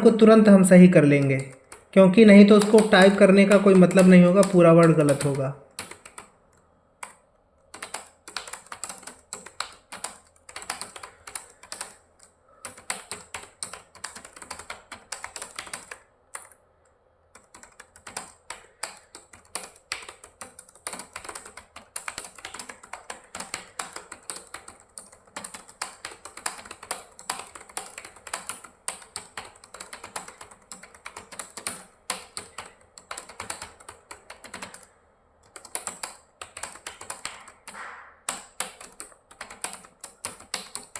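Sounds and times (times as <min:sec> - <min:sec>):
fast typing on keyboard: 0:00.0 - 0:16.6, 0:17.3 - 0:40.9.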